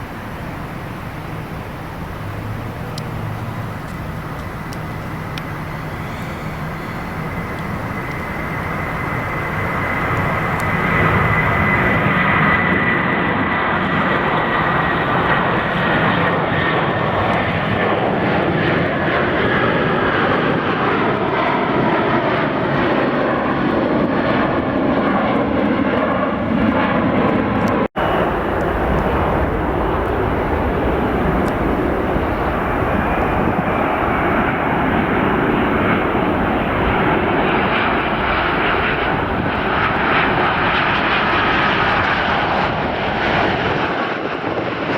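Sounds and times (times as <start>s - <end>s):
high engine whine: 0.0s - 22.8s, 23.6s - 44.6s
jet engines roaring overhead: 0.0s - 44.9s.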